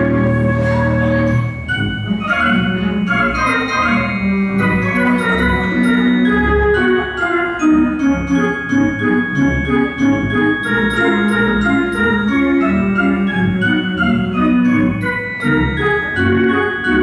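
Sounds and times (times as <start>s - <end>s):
theatre organ playing: 0.0s - 17.0s.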